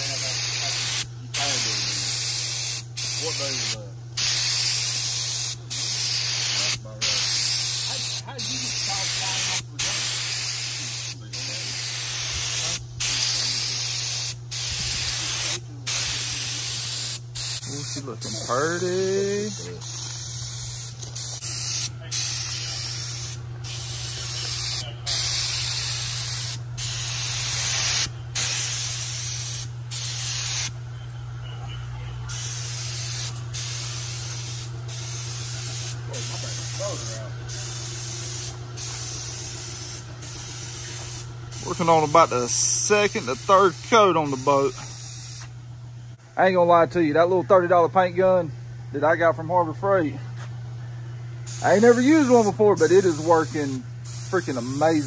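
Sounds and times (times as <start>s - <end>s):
air spray gun hissing: 0.0s - 30.8s, 32.3s - 45.6s, 51.4s - 55.0s.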